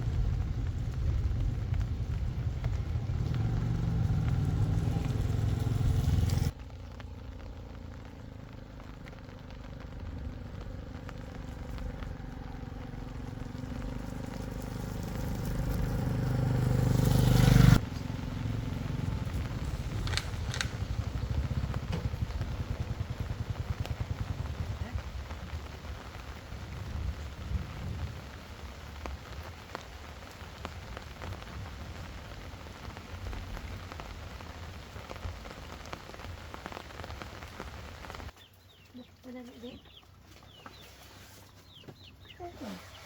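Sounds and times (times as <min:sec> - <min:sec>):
vehicle engine and road noise: 0:00.0 - 0:38.6.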